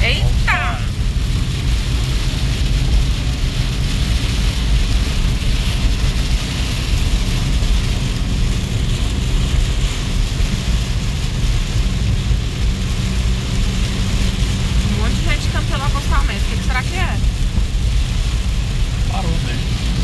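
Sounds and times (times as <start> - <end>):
engine and tyres rumbling on wet road: 0.0 - 20.0
heavy rain on car roof: 0.0 - 20.0.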